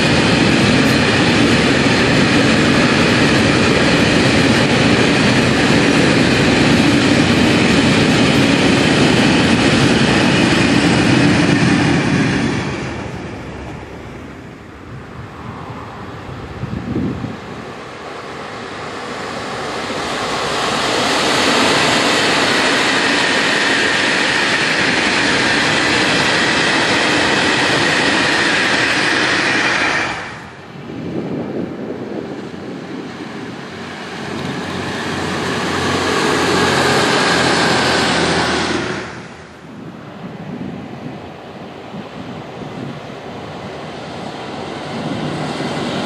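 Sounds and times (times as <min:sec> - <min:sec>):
electric trains passing: 0:00.0 - 0:46.0.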